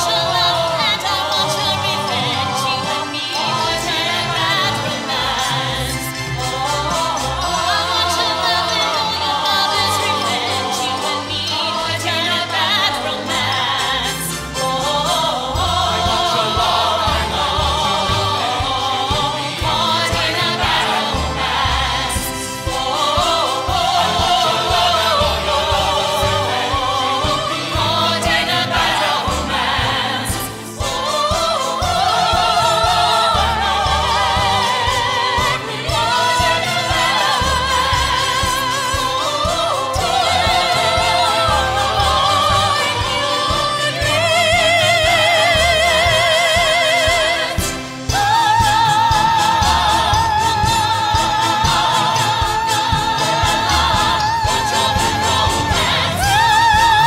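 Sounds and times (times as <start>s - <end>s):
choir singing: 0.0s - 57.0s
musical accompaniment: 0.0s - 57.0s
soprano singing with vibrato: 0.0s - 57.0s.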